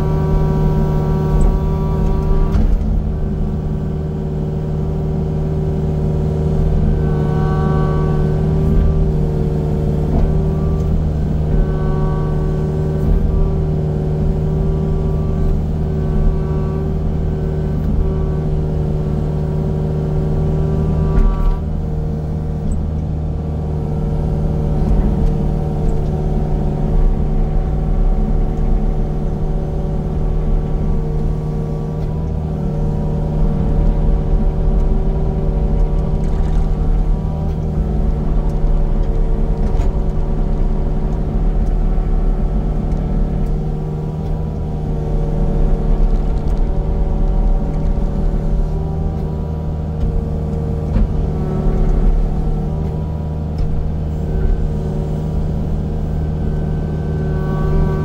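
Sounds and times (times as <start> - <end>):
heavy machinery engine rumbling: 0.0 - 58.0.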